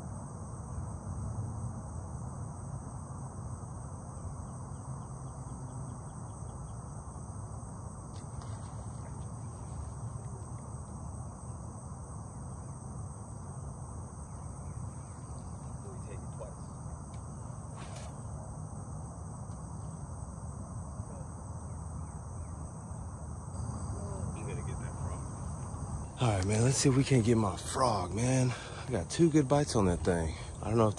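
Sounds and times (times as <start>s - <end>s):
insects chorus: 0.0s - 30.9s.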